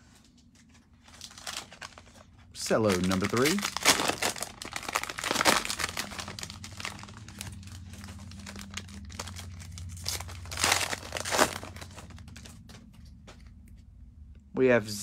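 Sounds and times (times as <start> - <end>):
cellophane wrapper crinkling: 0.3 - 12.8.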